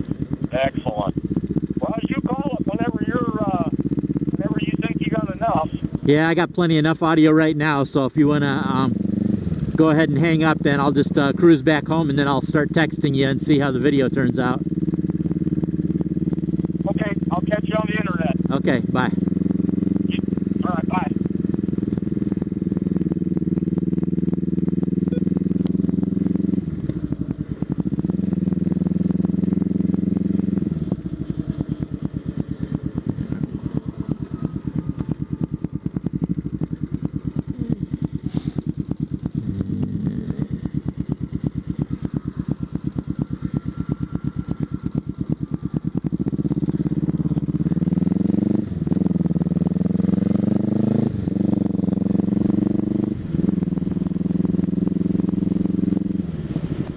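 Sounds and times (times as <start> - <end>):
motorcycle engine: 0.0 - 56.9.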